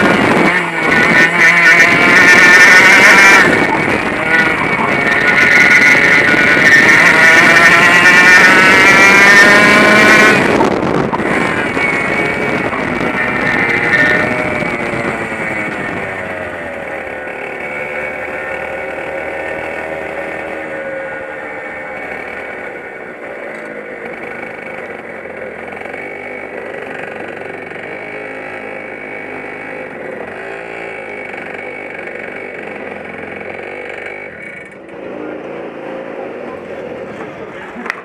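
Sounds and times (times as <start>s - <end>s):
kart engine running: 0.0s - 38.0s.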